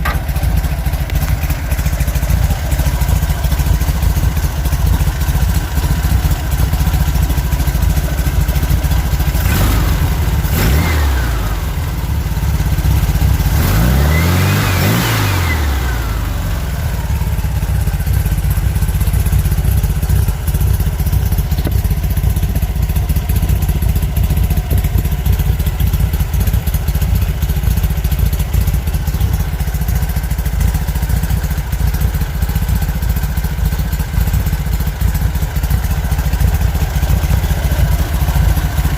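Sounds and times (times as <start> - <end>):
engine idling and revving: 0.0 - 38.9.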